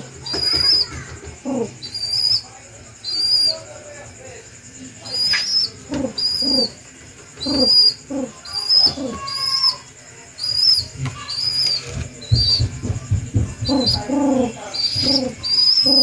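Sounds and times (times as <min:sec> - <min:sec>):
soft low pigeon sounds: 0:00.0 - 0:16.0
young pigeon squeaking calls: 0:00.1 - 0:03.7, 0:05.0 - 0:12.8, 0:13.6 - 0:16.0.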